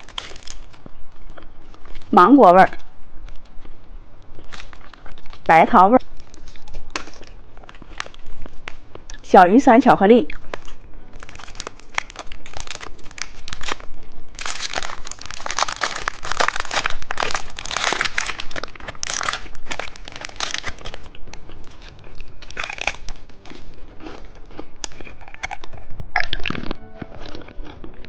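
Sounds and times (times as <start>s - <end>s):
candy wrappers crinkling: 0.0s - 9.3s, 10.3s - 28.0s.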